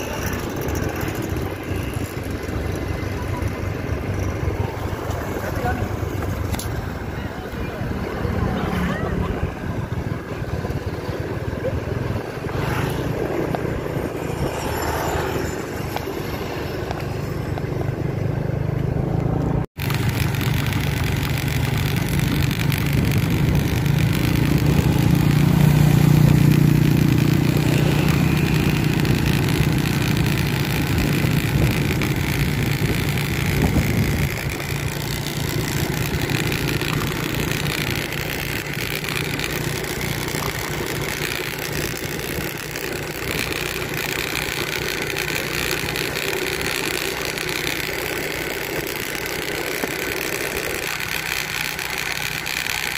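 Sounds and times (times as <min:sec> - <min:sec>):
motor scooter engine running: 0:00.0 - 0:52.9.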